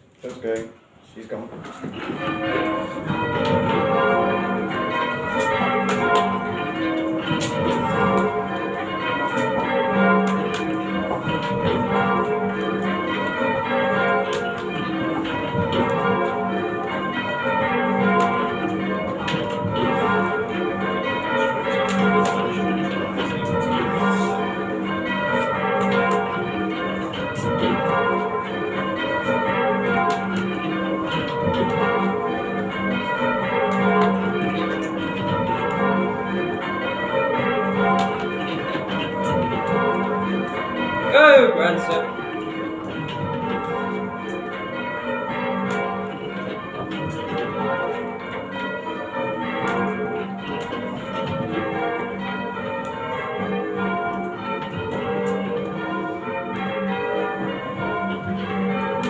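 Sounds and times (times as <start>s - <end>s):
church bells ringing in rounds: 1.2s - 59.0s.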